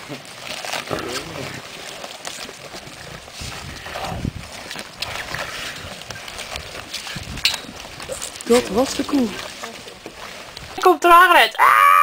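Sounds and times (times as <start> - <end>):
lions chewing and tearing meat: 0.0 - 10.8.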